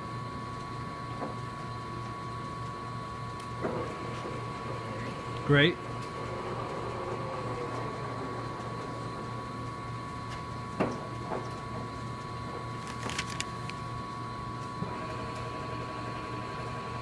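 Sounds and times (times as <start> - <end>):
lathe humming and whining: 0.0 - 17.0.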